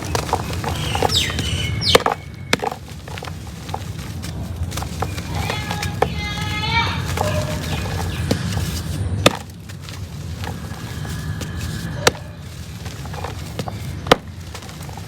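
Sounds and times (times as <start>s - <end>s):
cement crumbling: 0.0s - 15.0s.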